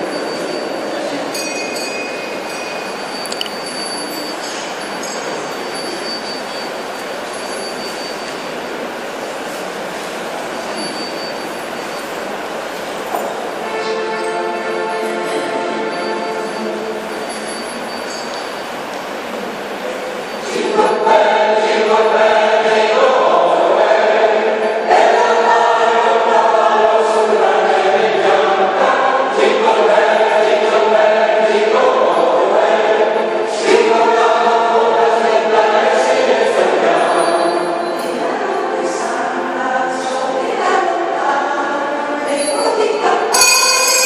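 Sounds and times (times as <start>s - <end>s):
mixed choir singing: 0.0s - 1.4s, 7.4s - 44.0s.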